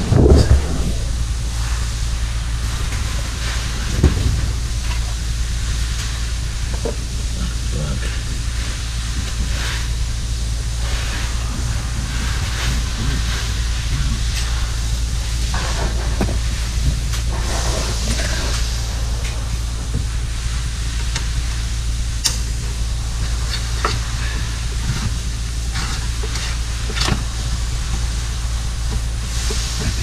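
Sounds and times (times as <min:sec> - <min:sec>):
workshop hum and hiss: 0:00.0 - 0:30.0.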